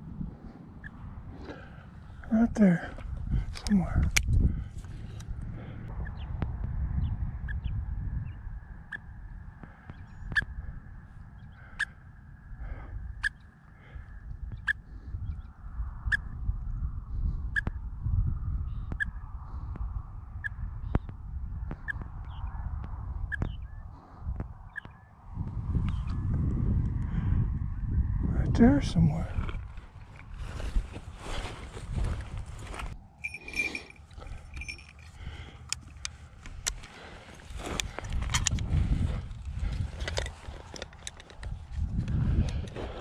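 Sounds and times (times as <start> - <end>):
wind rumble on microphone: 0.0 - 43.0.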